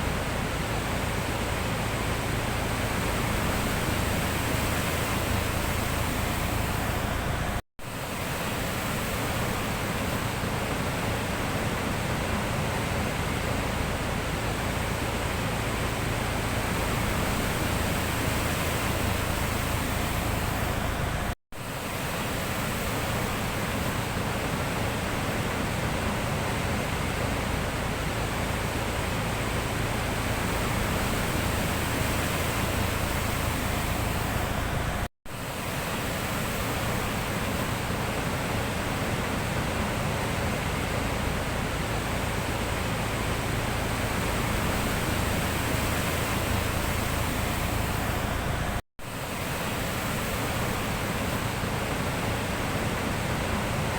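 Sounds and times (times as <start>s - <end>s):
sea waves rushing: 0.0s - 53.9s.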